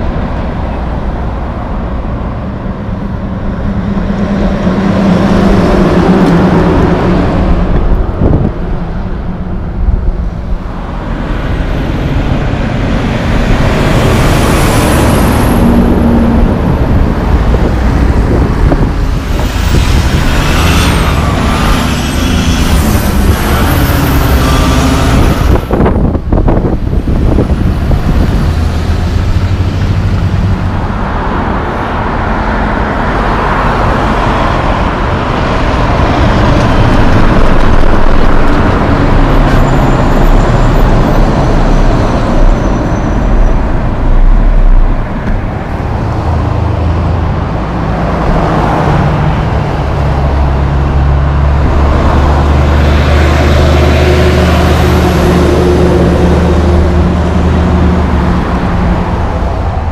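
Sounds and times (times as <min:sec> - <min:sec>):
heavy diesel trucks driving past: 0:00.0 - 0:59.9
road traffic: 0:00.0 - 0:59.9.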